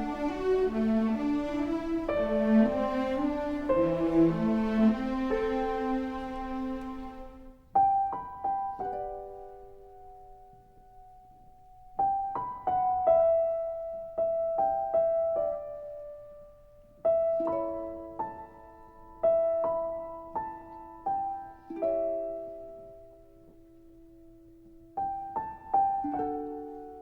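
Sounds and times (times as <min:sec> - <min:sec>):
slow gentle piano melody: 0:00.0 - 0:27.0.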